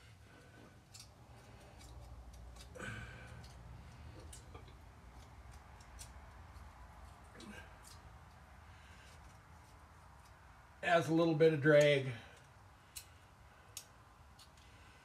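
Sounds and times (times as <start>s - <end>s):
low steady hum: 0.0s - 15.0s
metallic clicks and scraping: 0.4s - 10.4s, 11.7s - 14.8s.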